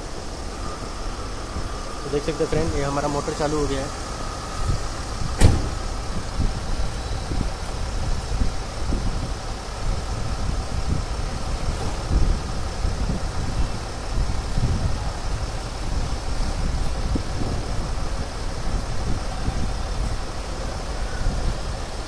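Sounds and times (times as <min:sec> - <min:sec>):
air compressor motor running: 0:00.0 - 0:20.5
car engine idling: 0:00.0 - 0:22.0.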